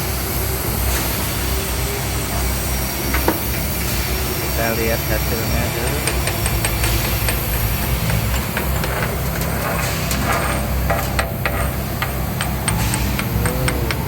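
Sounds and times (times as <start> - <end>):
engine running at low speed: 0.0 - 14.0.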